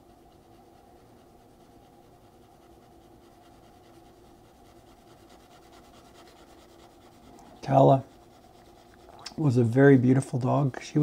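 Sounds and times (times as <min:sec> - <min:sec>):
pencil strokes on paper: 0:00.0 - 0:11.0
steady low hum: 0:00.0 - 0:11.0.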